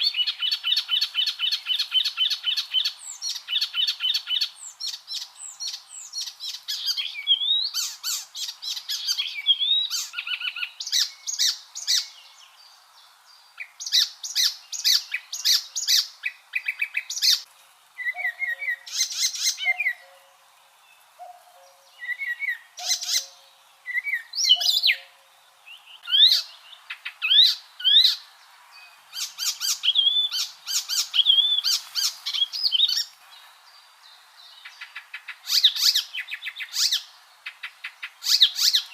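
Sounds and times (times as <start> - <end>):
warbler singing: 0.0 - 38.9.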